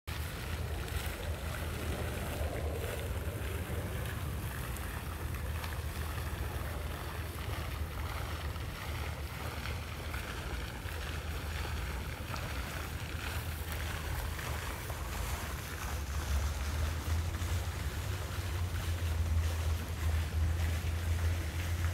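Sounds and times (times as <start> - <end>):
wind rumble on microphone: 0.1 - 21.9.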